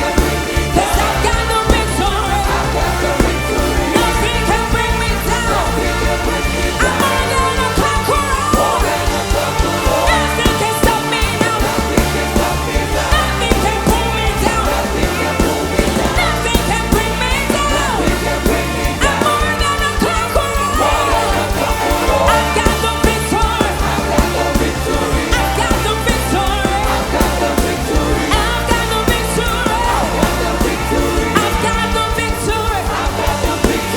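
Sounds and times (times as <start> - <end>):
bass and beat: 0.0 - 33.9
loud music with singing: 0.0 - 33.9.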